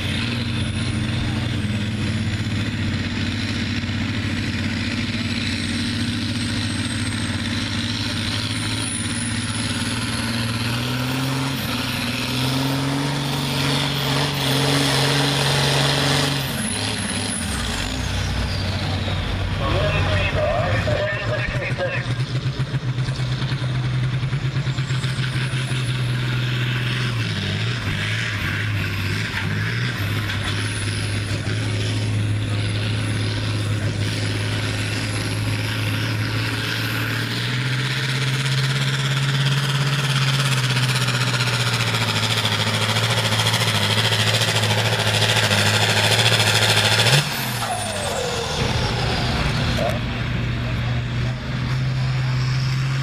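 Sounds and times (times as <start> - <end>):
diesel tractor engine at full load: 0.0 - 53.0.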